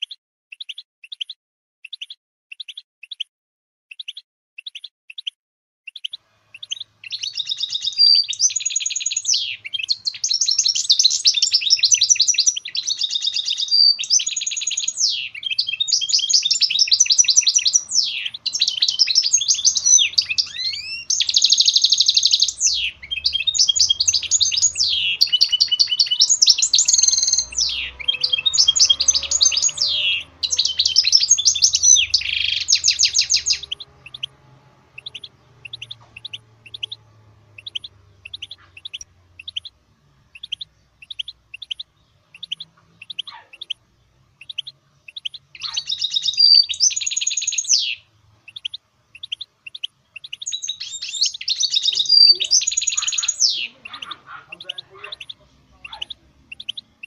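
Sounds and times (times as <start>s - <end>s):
soft bird chirps: 0.0s - 3.3s, 3.9s - 57.0s
songbird singing trills and whistles: 0.0s - 3.3s, 3.9s - 57.0s.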